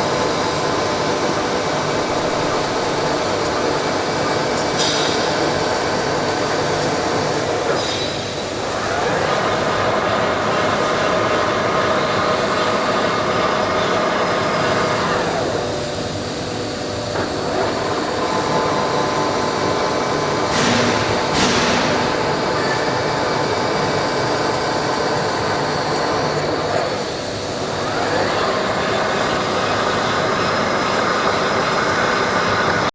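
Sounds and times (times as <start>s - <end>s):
metal lathe cutting: 0.0s - 32.9s.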